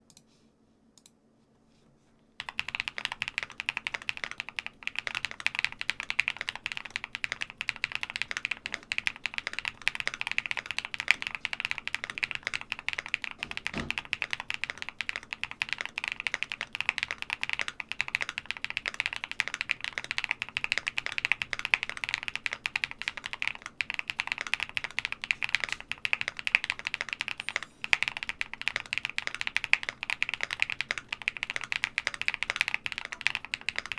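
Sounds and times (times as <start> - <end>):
fast mechanical keyboard typing: 2.4 - 33.9.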